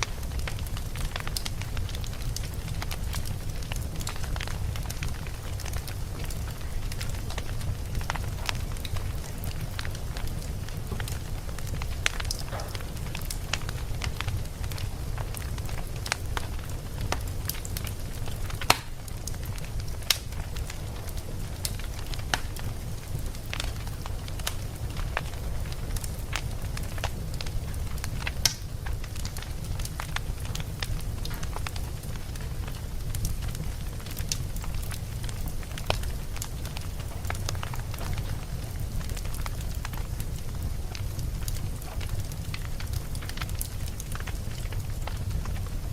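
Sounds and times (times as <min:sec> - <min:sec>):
low rumble of burning: 0:00.0 - 0:45.9
wood fire crackling and popping: 0:00.0 - 0:45.9.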